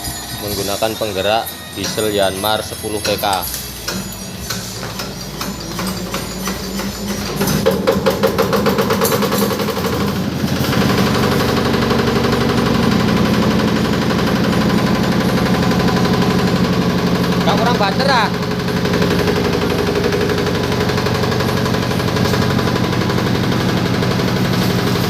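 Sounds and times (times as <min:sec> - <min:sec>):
diesel engine knocking: 0:00.0 - 0:25.0.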